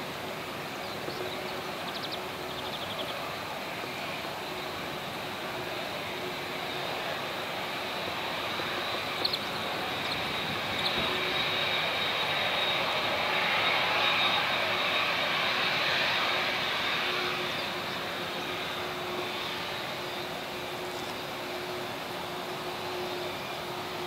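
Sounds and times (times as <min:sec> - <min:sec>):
jet engines whining: 0:00.0 - 0:24.0.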